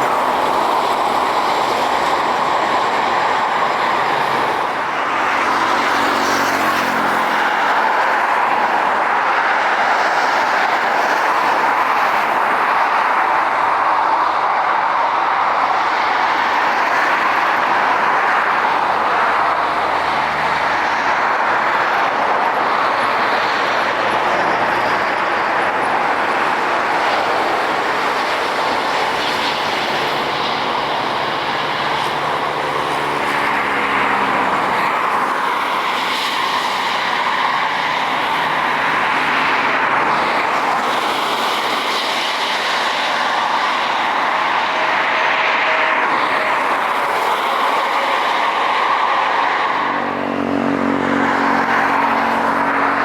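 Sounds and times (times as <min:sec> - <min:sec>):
jet airliner taking off: 0:00.0 - 0:53.0.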